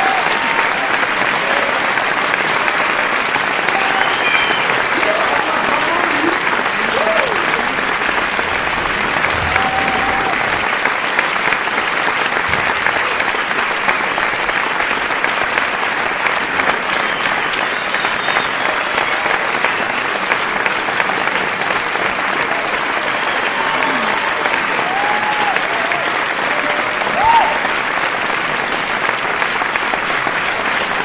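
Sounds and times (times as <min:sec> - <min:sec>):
crowd applause: 0:00.0 - 0:31.0.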